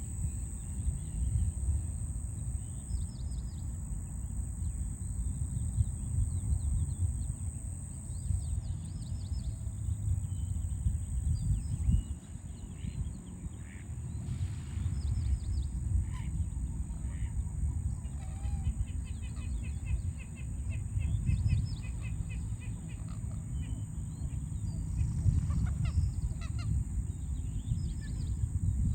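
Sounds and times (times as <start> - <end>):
steady high-pitched whine: 0.0 - 28.9.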